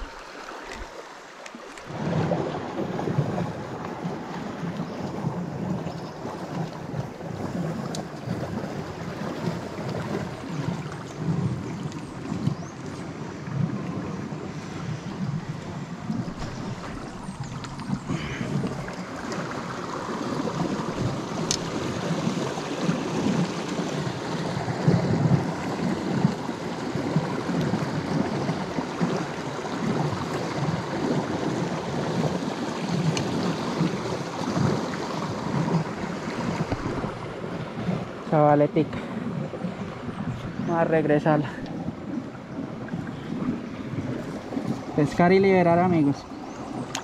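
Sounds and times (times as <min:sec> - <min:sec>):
wind buffeting microphone: 0:01.8 - 0:47.0.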